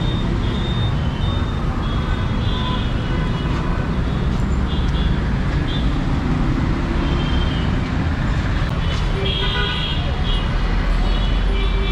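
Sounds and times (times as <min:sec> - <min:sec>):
traffic rumble: 0:00.0 - 0:11.9.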